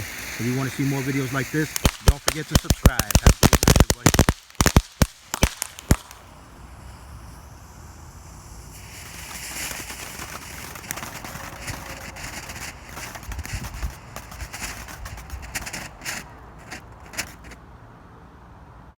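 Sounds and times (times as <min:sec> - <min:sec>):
sharp pops: 0:00.0 - 0:17.6
firework fountain crackling: 0:00.0 - 0:17.8
soft hiss: 0:00.0 - 0:18.4.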